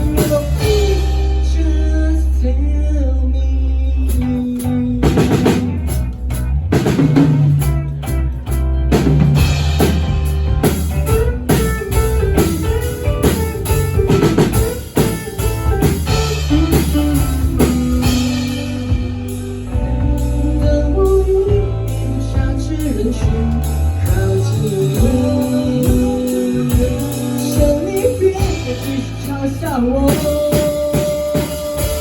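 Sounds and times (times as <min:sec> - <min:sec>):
drum kit steady beat: 0:00.0 - 0:01.8, 0:04.1 - 0:32.0
bass and guitar notes: 0:00.0 - 0:32.0.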